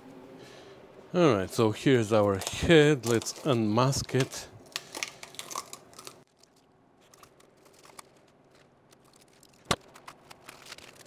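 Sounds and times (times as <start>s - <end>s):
masking tape peeling: 2.1s - 11.0s
tape crinkle: 2.1s - 11.0s.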